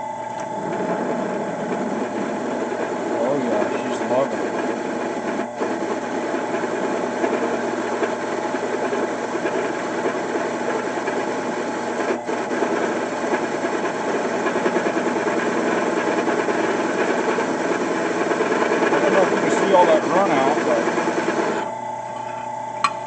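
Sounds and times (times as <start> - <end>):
drill press cutting steel pipe: 0.2 - 21.7.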